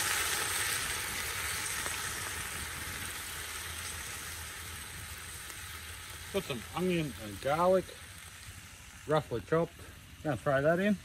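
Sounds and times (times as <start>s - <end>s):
liquid sizzling in hot pan: 0.0s - 11.0s.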